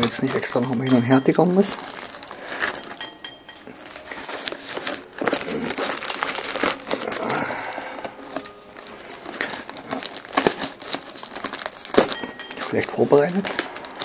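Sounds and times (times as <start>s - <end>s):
plastic film crinkling and tearing: 0.0s - 14.0s.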